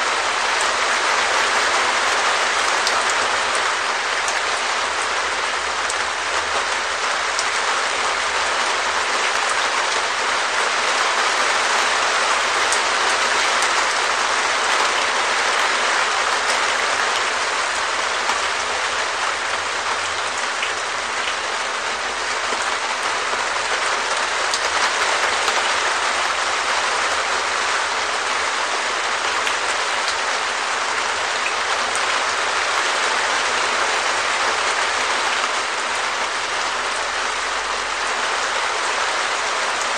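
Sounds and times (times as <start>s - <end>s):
rain on a plastic roof: 0.0s - 39.9s.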